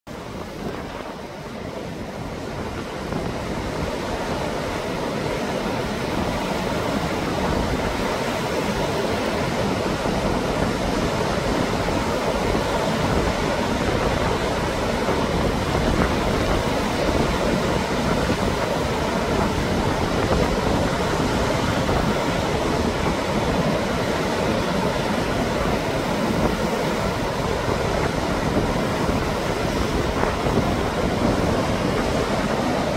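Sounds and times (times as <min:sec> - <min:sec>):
surf breaking over rocks: 0:00.1 - 0:32.9.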